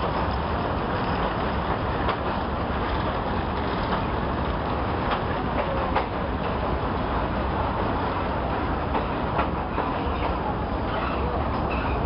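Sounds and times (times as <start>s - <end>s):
train running over bridge: 0.0s - 12.0s.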